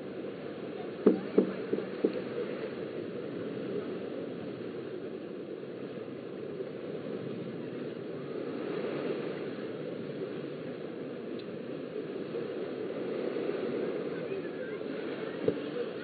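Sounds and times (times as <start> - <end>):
small surf rushing: 0.0 - 16.0
wind: 0.0 - 16.0.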